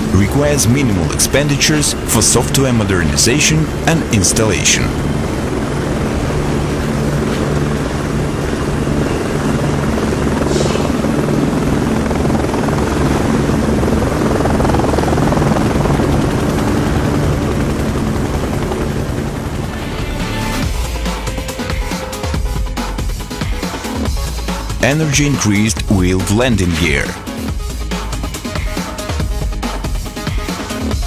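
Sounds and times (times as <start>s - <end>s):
helicopter rotors and turbines droning: 0.0s - 31.0s.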